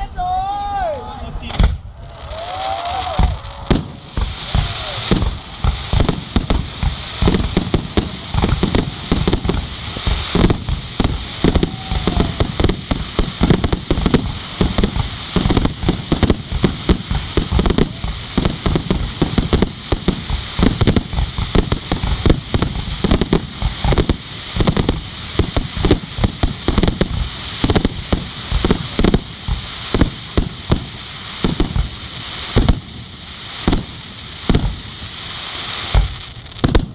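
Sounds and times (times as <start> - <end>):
fireworks bursting: 1.3 - 36.9
steady hiss: 2.2 - 36.9.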